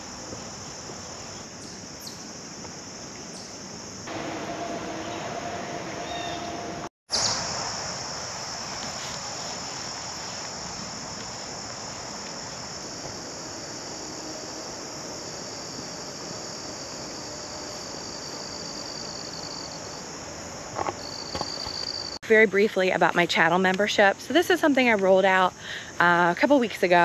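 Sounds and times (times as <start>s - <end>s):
insects buzzing: 0.0s - 27.0s.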